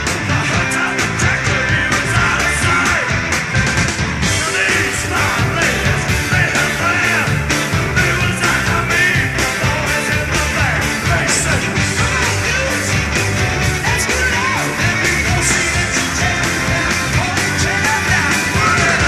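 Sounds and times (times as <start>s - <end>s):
drum kit with cymbals: 0.0s - 19.0s
electric guitar: 0.0s - 19.0s
keyboard: 0.0s - 19.0s.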